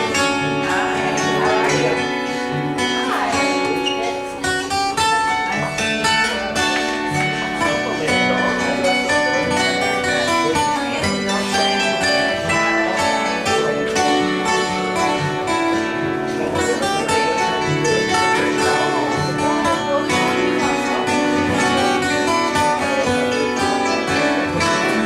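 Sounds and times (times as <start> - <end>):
acoustic guitar duo playing: 0.0 - 25.0.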